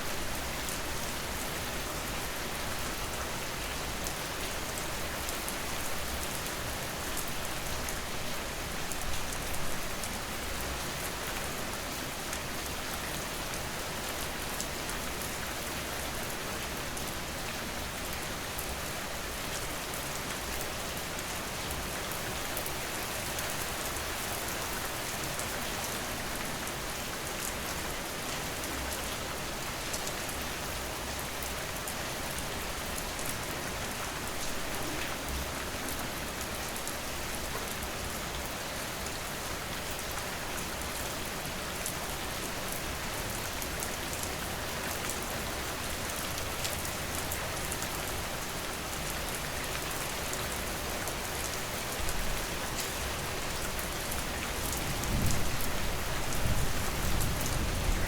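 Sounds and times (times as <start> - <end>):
rain pattering: 0.1 - 58.0.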